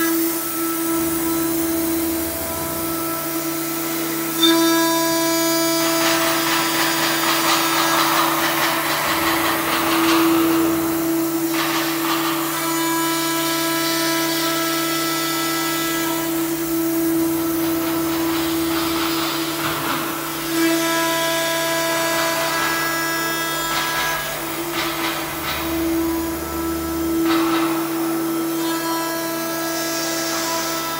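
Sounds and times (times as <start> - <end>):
high spindle whine: 0.0 - 30.9.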